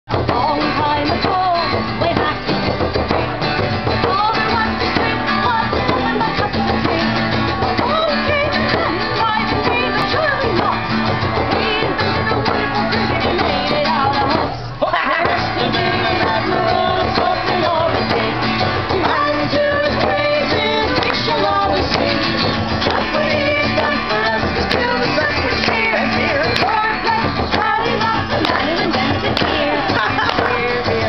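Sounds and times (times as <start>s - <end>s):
person singing: 0.1s - 2.5s, 3.9s - 7.1s, 7.8s - 31.0s
frame drum struck with beater: 0.1s - 14.6s, 15.2s - 31.0s
strummed acoustic guitar: 0.1s - 31.0s.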